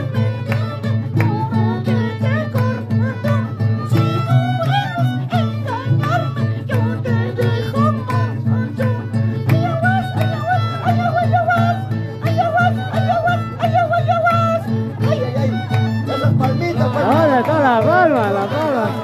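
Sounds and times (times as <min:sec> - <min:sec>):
violin melody: 0:00.0 - 0:19.0.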